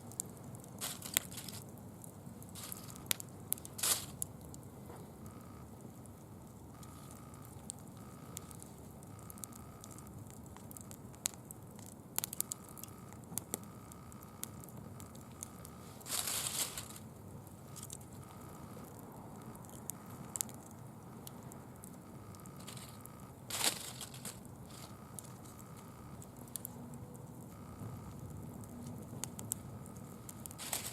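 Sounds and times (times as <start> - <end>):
fire popping: 0.0 - 30.9
leaf bonfire crackling: 0.0 - 30.9.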